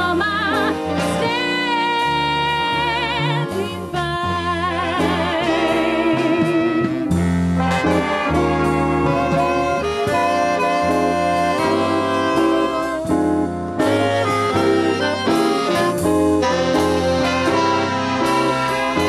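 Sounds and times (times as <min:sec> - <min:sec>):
saxophones and brass playing: 0:00.0 - 0:19.0
steady bass notes: 0:00.0 - 0:19.0.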